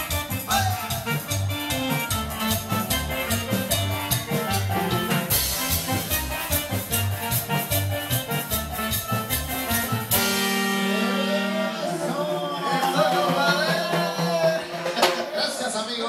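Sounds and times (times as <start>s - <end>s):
live band playing latin dance music: 0.0s - 16.0s
percussion beat: 0.0s - 16.0s.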